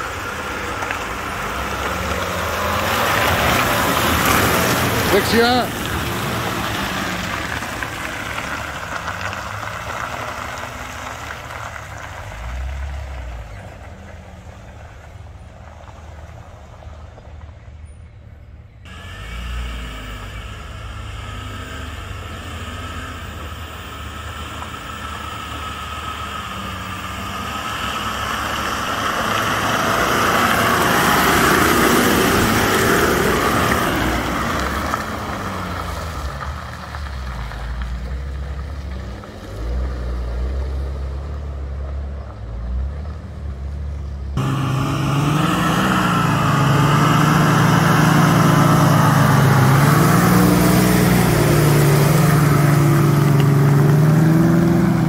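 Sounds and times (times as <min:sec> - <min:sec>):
off-road engine revving: 0:00.0 - 0:55.0.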